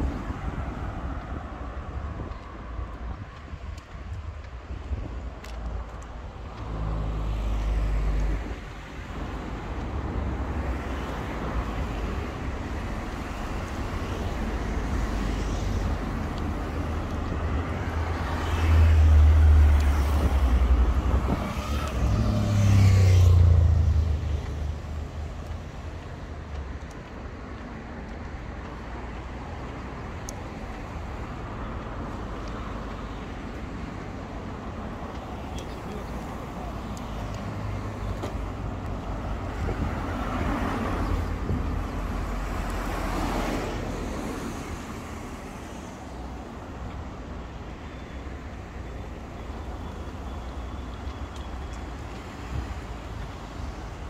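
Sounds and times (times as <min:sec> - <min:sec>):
steady traffic hum: 0:00.0 - 0:54.0
cars driving past: 0:04.9 - 0:54.0.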